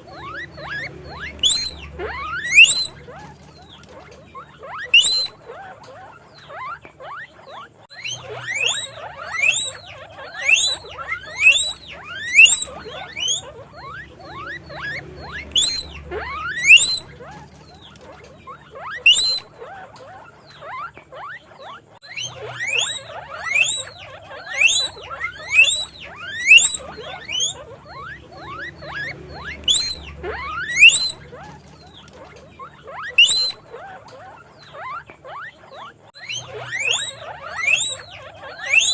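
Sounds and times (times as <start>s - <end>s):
guinea pigs chirping squeaks: 0.0s - 38.9s
guinea pigs whistle-like squeaks: 0.0s - 38.9s.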